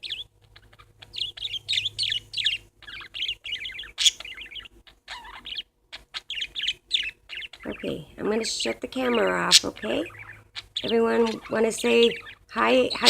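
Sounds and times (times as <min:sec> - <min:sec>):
parakeets chirping: 0:00.0 - 0:13.0.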